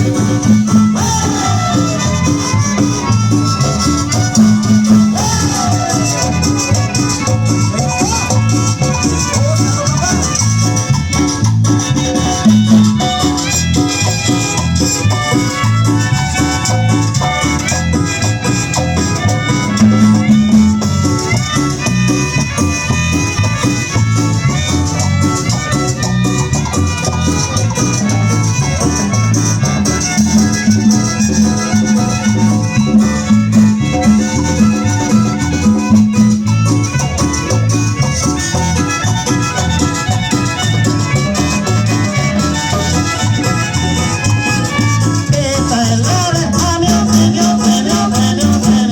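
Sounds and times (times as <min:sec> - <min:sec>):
latin dance music: 0:00.0 - 0:48.9.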